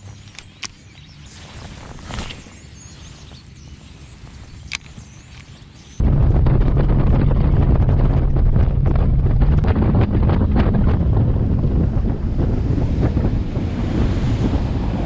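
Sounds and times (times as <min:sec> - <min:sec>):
outboard engine hum: 0:01.2 - 0:15.0
wind buffeting microphone: 0:01.3 - 0:15.0.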